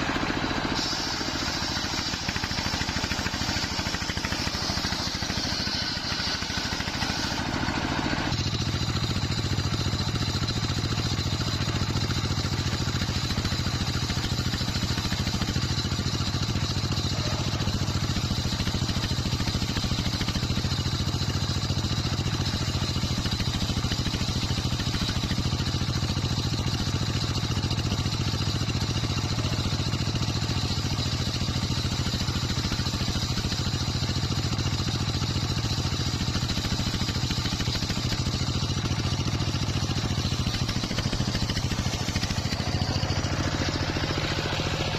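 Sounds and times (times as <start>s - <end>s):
circular saw blade running: 0.0s - 44.9s.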